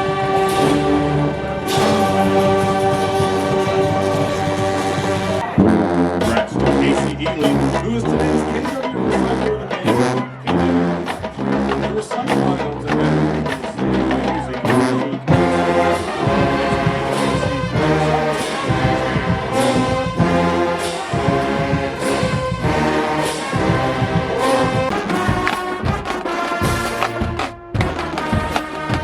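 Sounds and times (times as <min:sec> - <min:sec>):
marching band brass tune: 0:00.0 - 0:29.0.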